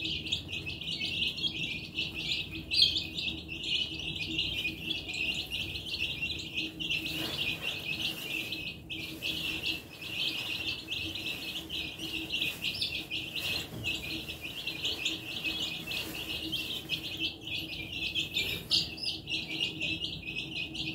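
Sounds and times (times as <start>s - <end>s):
baby chicks peeping: 0.0s - 20.9s.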